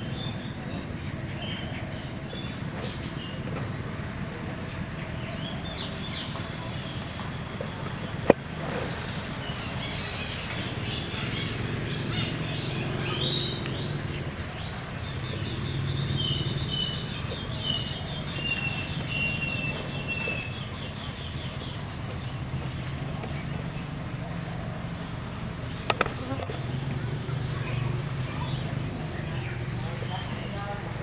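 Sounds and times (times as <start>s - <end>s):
wild birds chirping: 0.0s - 31.0s.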